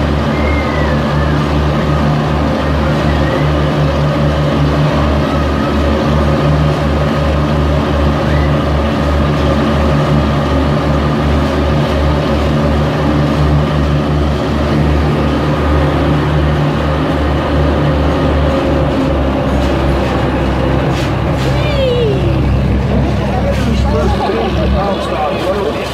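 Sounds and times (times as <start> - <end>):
diesel locomotive throbbing: 0.0 - 25.9
steady hum: 0.0 - 25.9.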